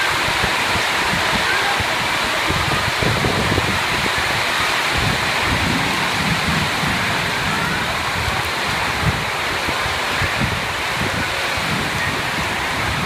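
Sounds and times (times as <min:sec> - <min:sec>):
rain on a metal roof: 0:00.0 - 0:13.0
wind gusting: 0:00.0 - 0:13.0.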